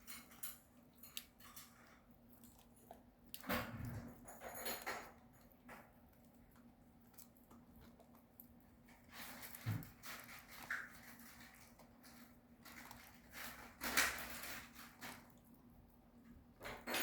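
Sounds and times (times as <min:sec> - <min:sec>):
puppy gnawing on a chew: 0:00.0 - 0:17.0.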